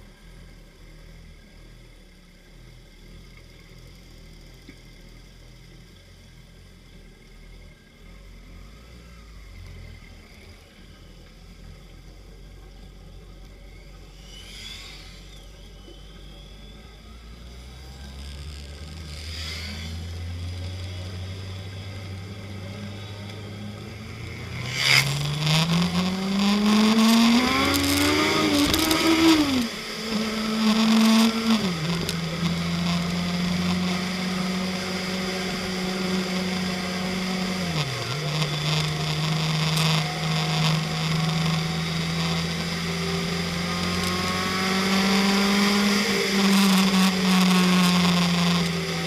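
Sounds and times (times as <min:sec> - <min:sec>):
motorcycle engine accelerating: 0:06.5 - 0:49.0.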